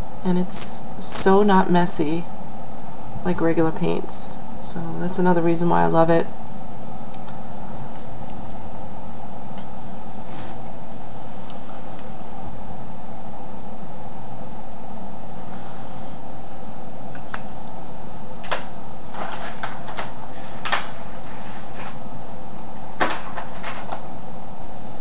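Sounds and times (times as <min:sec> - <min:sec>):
background hum: 0:00.0 - 0:25.0.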